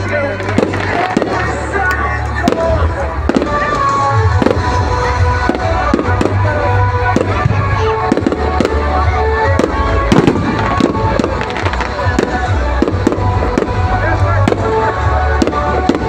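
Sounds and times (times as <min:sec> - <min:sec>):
fireworks bursting: 0:00.0 - 0:16.0
loud music with strong bass: 0:00.0 - 0:16.0.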